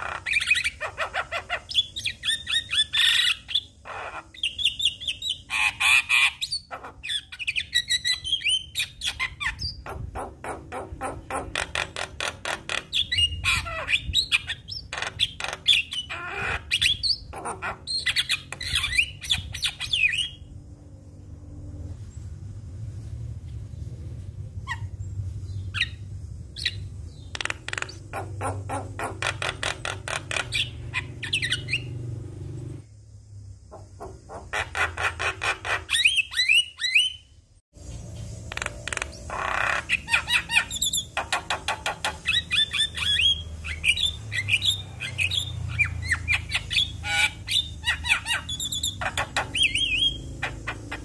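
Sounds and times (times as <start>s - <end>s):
bird singing: 0.0s - 20.6s, 24.6s - 32.9s, 33.6s - 51.0s.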